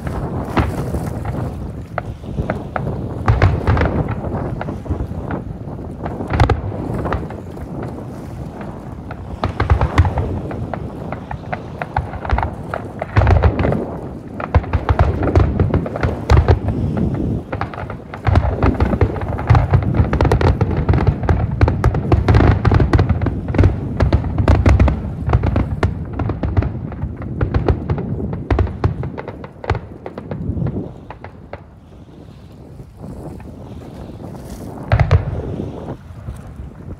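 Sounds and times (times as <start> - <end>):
deep firework booms: 0.0 - 36.9
firework crackle: 0.0 - 36.9.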